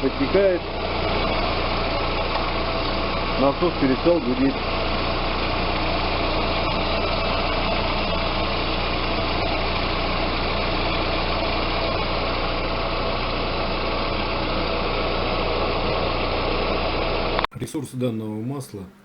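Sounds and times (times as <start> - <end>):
car engine idling: 0.0 - 17.5.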